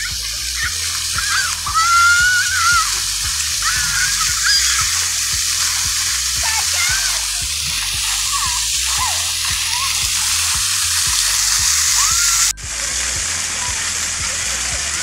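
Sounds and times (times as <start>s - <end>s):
fountain jets splashing: 0.0s - 15.0s.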